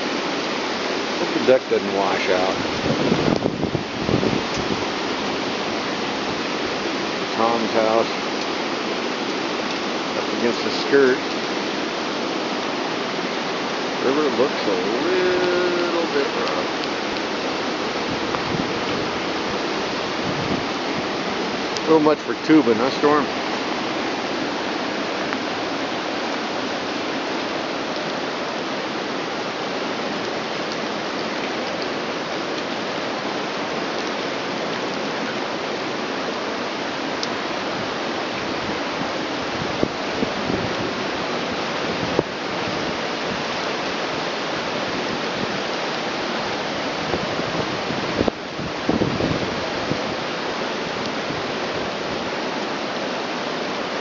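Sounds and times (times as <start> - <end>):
falling rain: 0.0 - 54.0
river rushing: 0.0 - 54.0.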